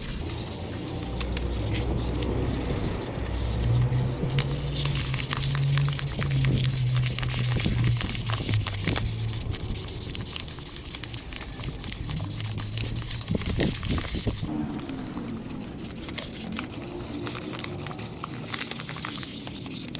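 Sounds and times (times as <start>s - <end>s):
cloth scrubbing metal pipe: 0.2s - 18.3s.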